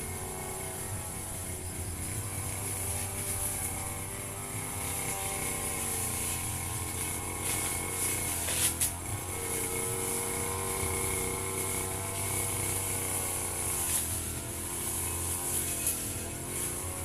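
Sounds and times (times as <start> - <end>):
brush cutter engine cutting grass: 0.0 - 17.0.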